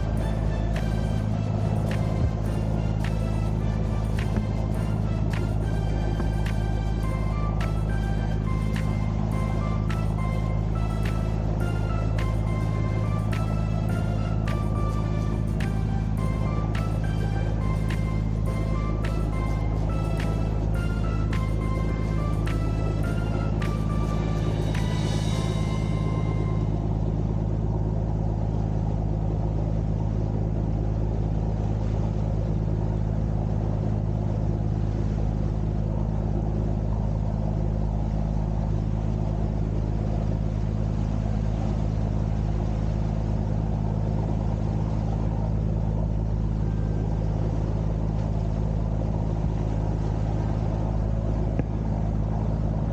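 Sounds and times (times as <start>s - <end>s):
boat engine running: 0.0s - 52.9s.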